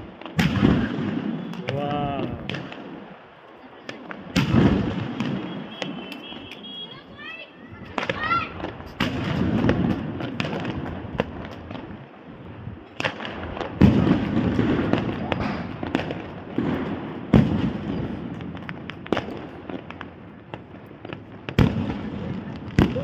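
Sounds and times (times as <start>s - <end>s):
fireworks bangs: 0.0s - 23.0s
fireworks crackling: 0.0s - 23.0s.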